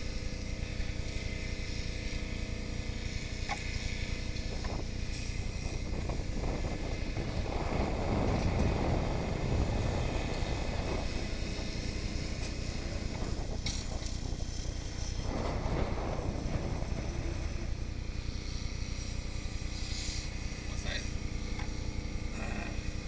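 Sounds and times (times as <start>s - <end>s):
wind buffeting microphone: 0.0s - 22.3s
fire truck engine rumbling: 0.0s - 23.0s.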